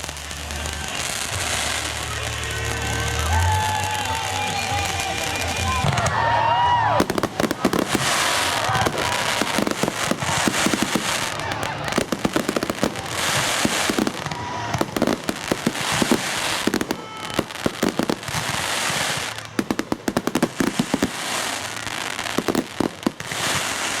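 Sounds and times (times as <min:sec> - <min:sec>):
fireworks crackling pops: 0:00.0 - 0:24.0.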